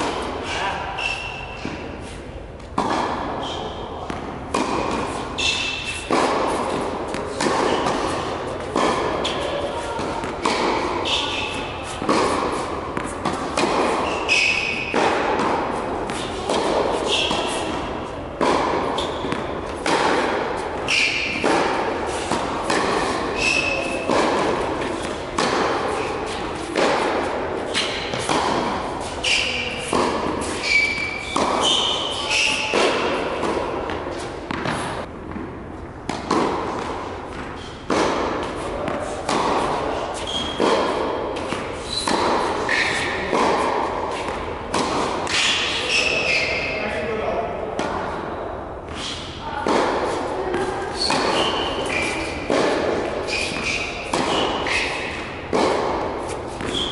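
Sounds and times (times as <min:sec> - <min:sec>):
tennis ball hits echoing: 0:02.6 - 0:46.5, 0:49.6 - 0:56.9.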